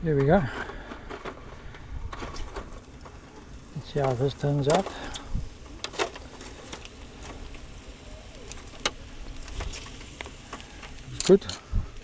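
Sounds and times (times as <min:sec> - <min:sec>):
faint sizzling hiss: 0:00.0 - 0:12.0
sausages crackling on charcoal grill: 0:00.0 - 0:12.0.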